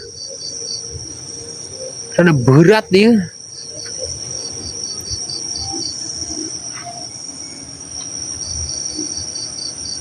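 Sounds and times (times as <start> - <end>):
crickets trilling: 0.0 - 10.0
insect chirping: 0.0 - 10.0.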